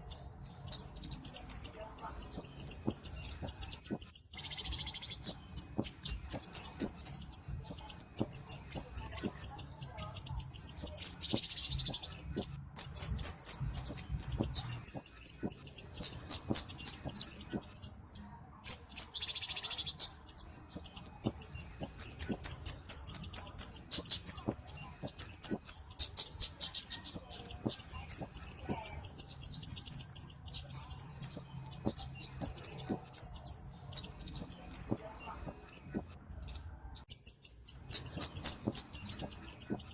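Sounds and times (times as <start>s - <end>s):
bird high ticking calls: 0.0s - 39.9s.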